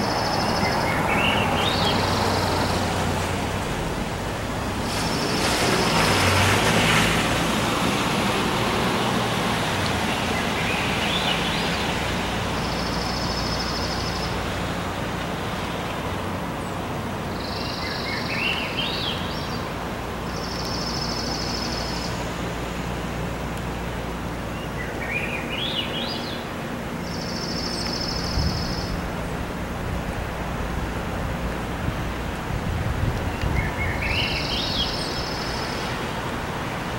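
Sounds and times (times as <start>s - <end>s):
road hiss: 0.0s - 36.9s
wind: 0.0s - 36.9s.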